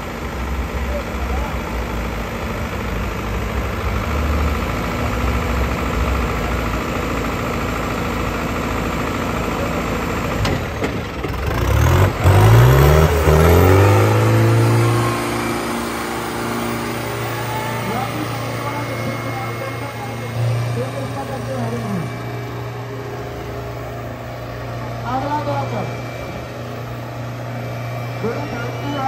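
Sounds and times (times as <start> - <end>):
diesel tractor engines revving: 0.0 - 29.0.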